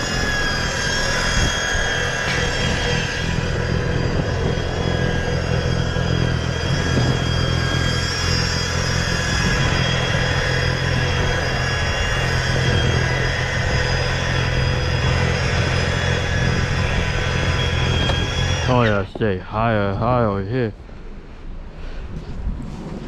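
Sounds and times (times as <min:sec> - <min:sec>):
snow-clearing machine engine running: 0:00.0 - 0:21.7.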